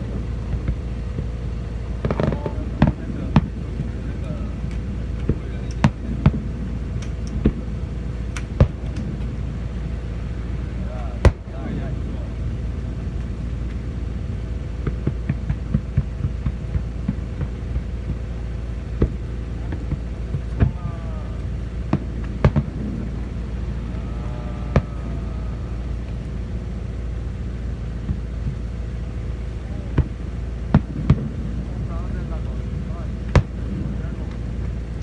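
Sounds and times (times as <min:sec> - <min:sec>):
fireworks popping: 0:00.0 - 0:35.0
steady low rumble: 0:00.0 - 0:35.0.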